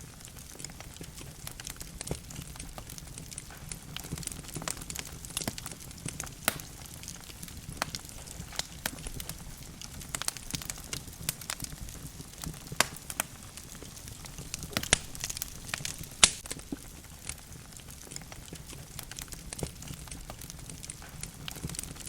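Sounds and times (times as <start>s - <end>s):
burning logs crackling and popping: 0.0s - 22.0s
low steady hiss: 0.0s - 22.0s.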